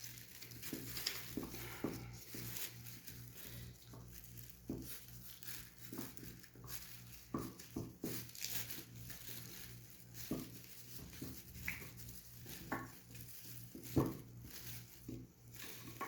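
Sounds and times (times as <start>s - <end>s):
rustling of wiring: 0.0s - 16.0s.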